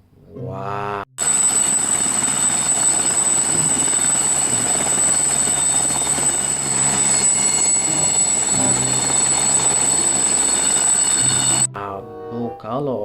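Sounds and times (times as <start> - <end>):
helicopter rotor and engine: 1.2 - 11.7.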